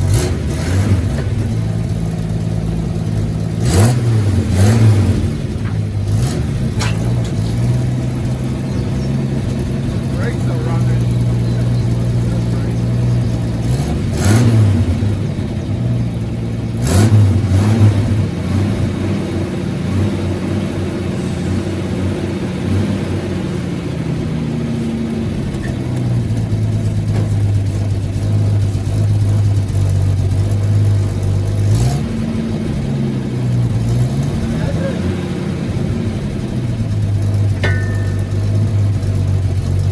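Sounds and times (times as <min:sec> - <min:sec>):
truck engine idling and revving: 0:00.0 - 0:39.9.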